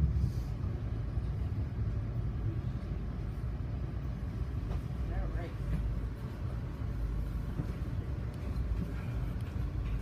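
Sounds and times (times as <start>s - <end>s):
train car rumbling on track: 0.0s - 10.0s.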